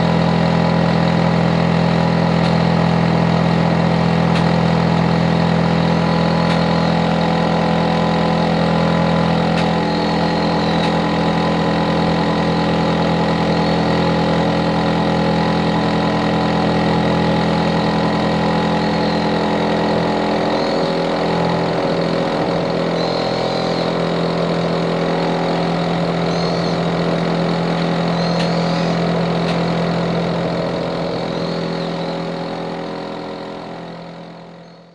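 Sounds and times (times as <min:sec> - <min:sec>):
air conditioner unit humming: 0:00.0 - 0:34.9.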